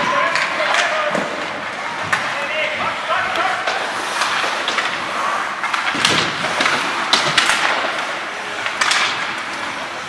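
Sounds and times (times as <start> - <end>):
skate blades scraping ice: 0.1 - 10.0.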